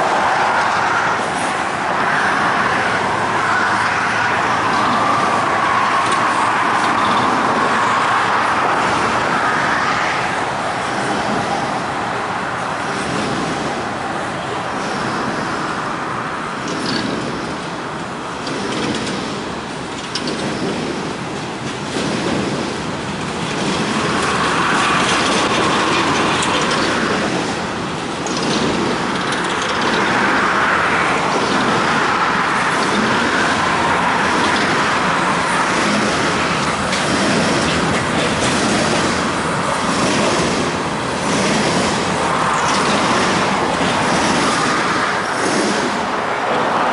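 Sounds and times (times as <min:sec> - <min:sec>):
highway traffic noise: 0:00.0 - 0:46.9
hopper cars rolling on track: 0:00.0 - 0:46.9.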